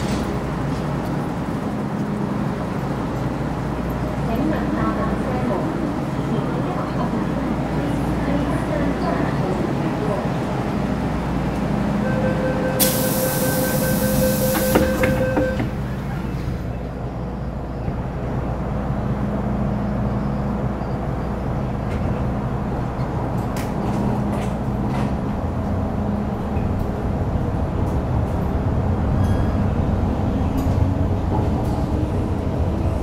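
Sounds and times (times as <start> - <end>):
train rumble and rolling noise: 0.0 - 33.0.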